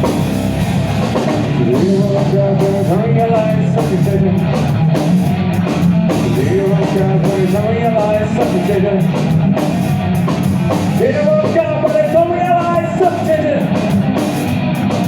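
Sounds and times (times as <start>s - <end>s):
distorted electric guitars: 0.0s - 15.0s
drums: 0.0s - 15.0s.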